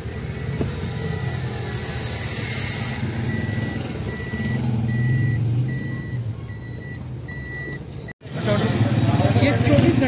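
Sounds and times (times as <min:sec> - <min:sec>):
parking sensor beeps: 0:00.0 - 0:08.2.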